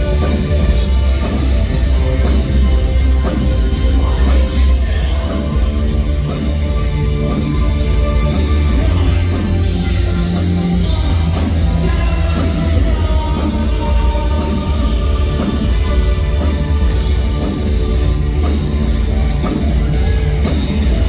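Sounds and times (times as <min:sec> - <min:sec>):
loud industrial music: 0:00.0 - 0:21.0.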